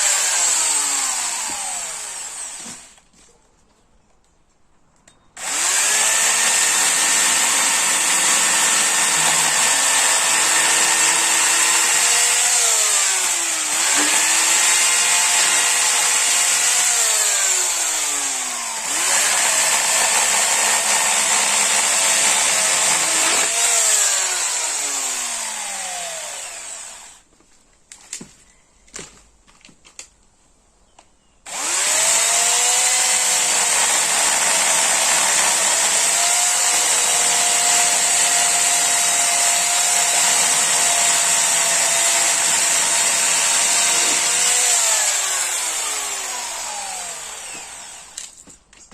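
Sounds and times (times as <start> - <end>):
chainsaw revving: 0.0 - 2.8, 5.4 - 27.1, 31.5 - 48.2.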